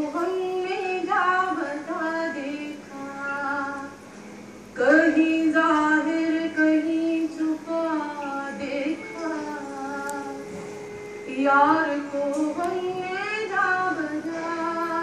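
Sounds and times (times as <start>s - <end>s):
woman singing long wavering notes: 0.0s - 4.0s, 4.8s - 15.0s.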